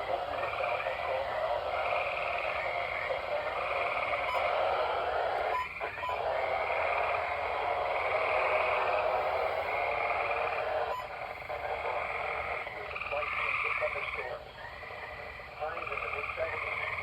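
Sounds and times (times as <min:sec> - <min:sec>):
chorus of frogs trilling: 0:00.0 - 0:17.0.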